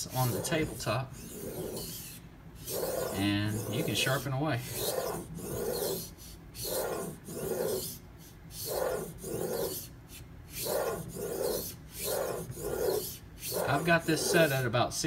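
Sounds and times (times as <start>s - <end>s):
knife rasping on whetstone: 0.0s - 14.8s.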